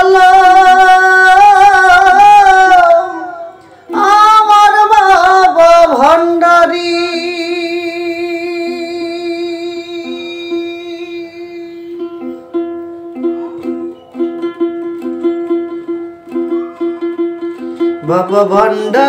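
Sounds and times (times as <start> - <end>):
ukulele strumming: 0.0 - 19.0.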